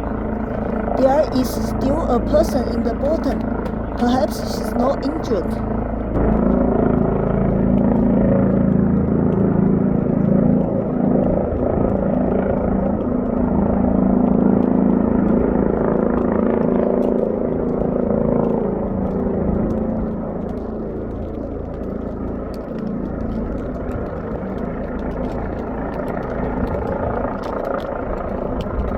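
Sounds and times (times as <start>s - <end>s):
helicopter hovering: 0.0s - 28.9s.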